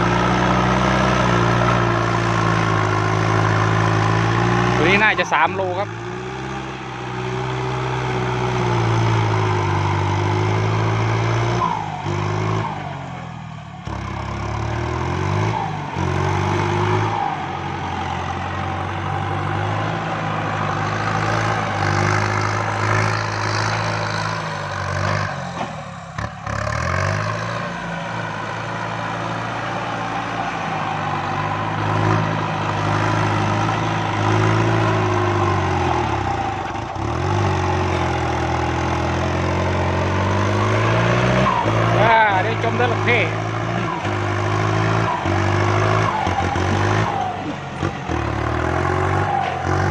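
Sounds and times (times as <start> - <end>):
tractor diesel engine working: 0.0 - 49.9.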